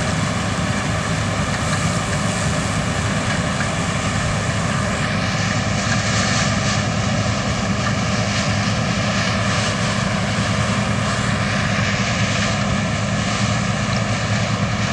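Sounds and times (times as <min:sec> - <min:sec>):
combine harvester drone: 0:00.0 - 0:14.9.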